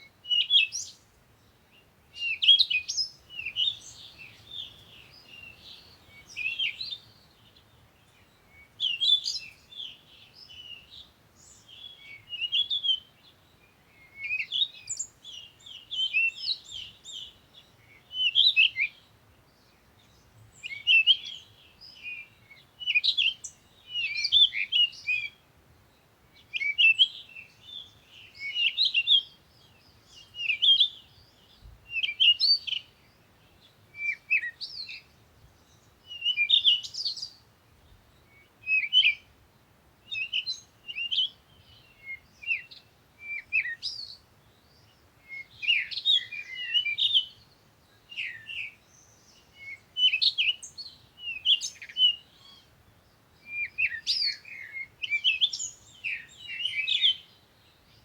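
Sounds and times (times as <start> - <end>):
songbird chirping and trilling: 0.0 - 39.4, 40.0 - 58.0.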